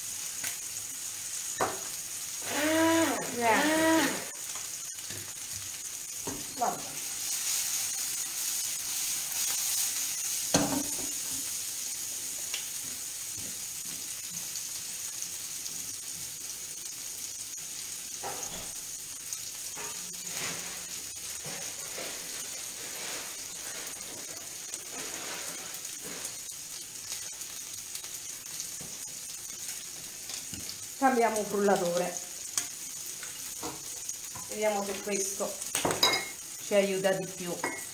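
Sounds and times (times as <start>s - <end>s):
food sizzling in oil: 0.0s - 37.9s.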